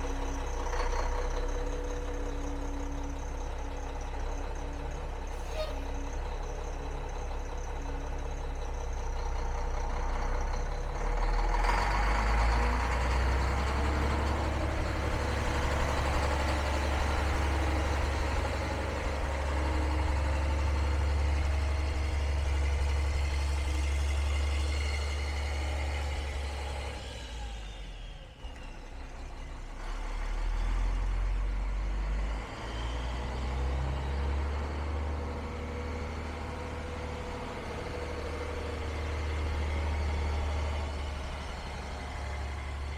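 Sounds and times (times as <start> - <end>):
truck diesel engine running: 0.0 - 42.9.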